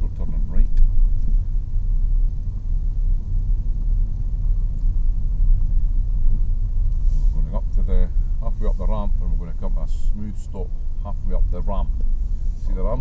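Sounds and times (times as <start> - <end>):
car cabin engine rumble: 0.0 - 13.0.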